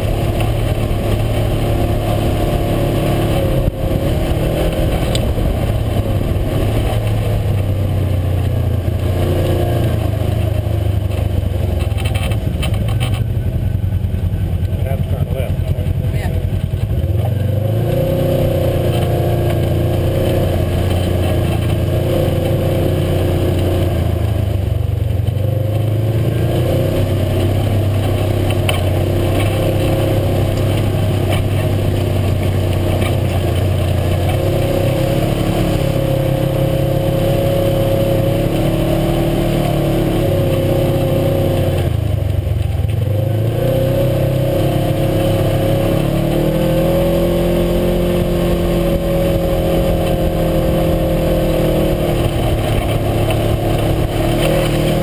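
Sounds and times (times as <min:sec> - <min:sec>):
utv engine running: 0:00.0 - 0:55.0.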